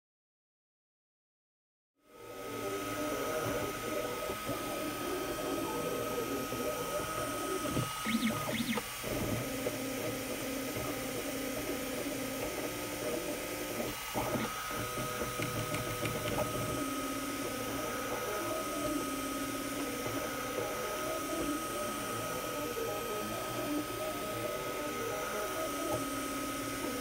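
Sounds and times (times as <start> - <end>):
fan whining: 2.2 - 27.0
stepper motors whirring: 2.3 - 27.0.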